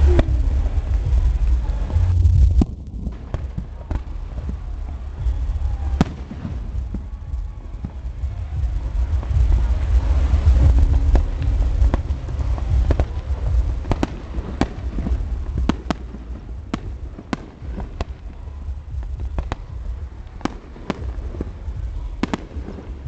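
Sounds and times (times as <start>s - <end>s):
fireworks cracking and banging: 0.0s - 23.0s
steady low rumble: 0.0s - 23.0s.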